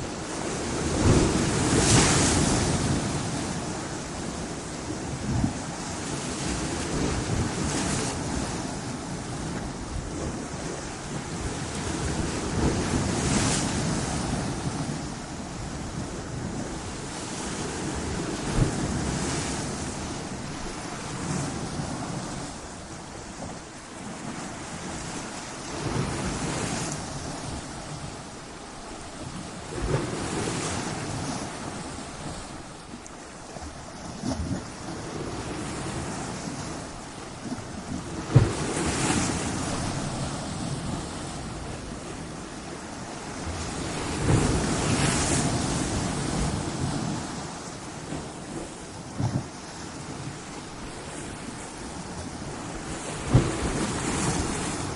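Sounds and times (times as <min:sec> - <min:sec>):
ocean waves breaking: 0:00.0 - 0:54.9
wind buffeting microphone: 0:00.0 - 0:54.9.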